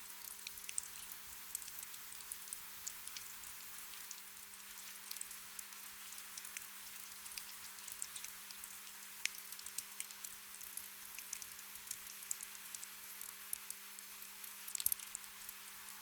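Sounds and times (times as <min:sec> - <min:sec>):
soft rain pattering: 0:00.0 - 0:16.0.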